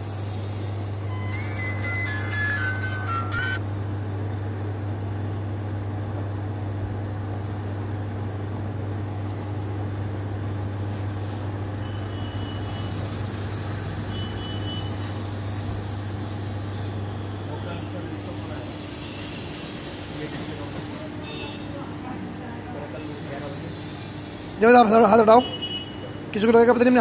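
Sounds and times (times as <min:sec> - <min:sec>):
ice cream machine humming: 0:00.0 - 0:27.0.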